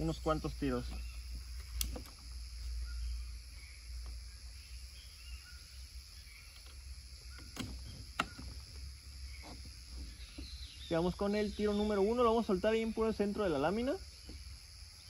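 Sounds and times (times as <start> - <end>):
high insect buzz: 0.0 - 15.0.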